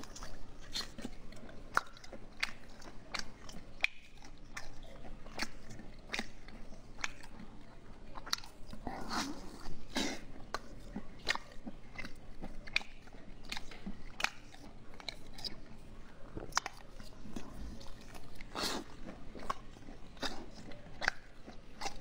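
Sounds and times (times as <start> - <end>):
close chewing and biting: 0.0 - 22.0.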